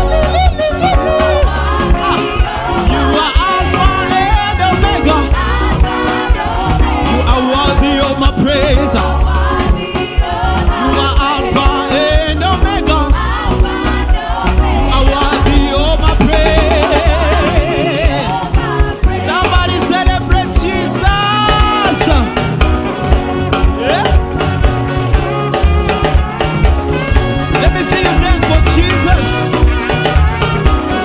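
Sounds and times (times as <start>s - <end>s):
bass line: 0.0s - 31.0s
fast drum beat: 0.0s - 31.0s
gospel singing: 0.0s - 31.0s.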